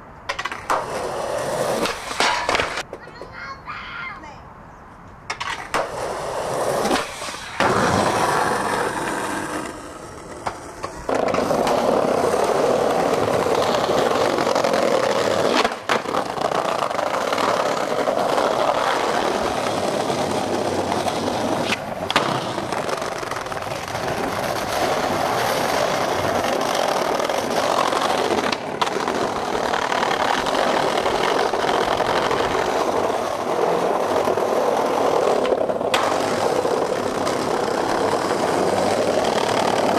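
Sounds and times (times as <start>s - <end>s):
skateboard wheels rolling: 0.0s - 3.6s, 5.0s - 39.9s
skateboard knocks: 0.3s - 3.4s, 9.0s - 39.9s.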